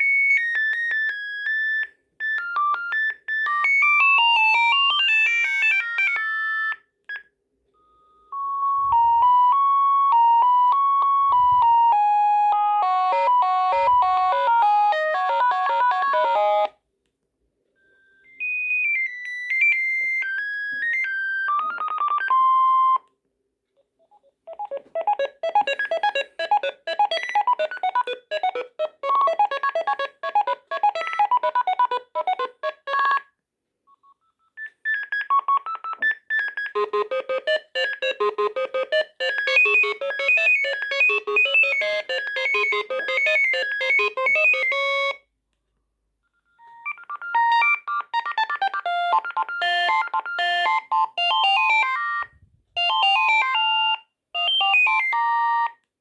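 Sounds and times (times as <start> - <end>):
mobile phone ringtones: 0.3 - 16.7, 17.9 - 23.0, 24.5 - 33.3, 33.9 - 45.3, 46.3 - 55.8.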